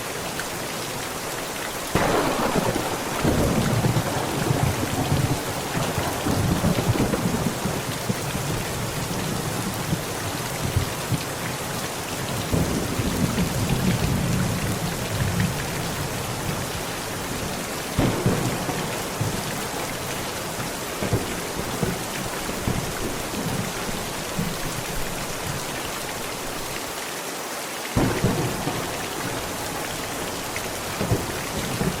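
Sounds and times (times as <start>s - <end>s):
heavy rain on a tent: 0.0s - 32.0s
rolling thunder: 1.9s - 11.2s, 12.4s - 26.4s, 28.0s - 32.0s
thunderclap: 1.9s - 11.2s, 12.4s - 26.5s, 28.0s - 32.0s.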